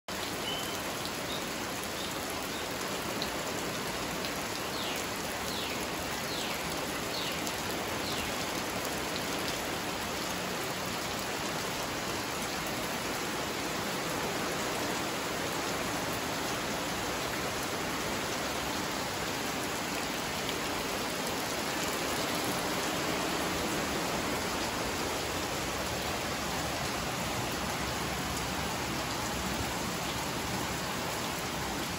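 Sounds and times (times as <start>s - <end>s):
rain on foliage: 0.1s - 31.9s.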